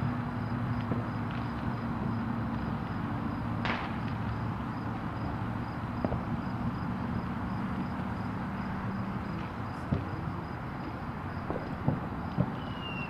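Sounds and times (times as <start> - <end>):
engine hum: 0.0 - 13.0
road traffic rumble: 0.0 - 13.0.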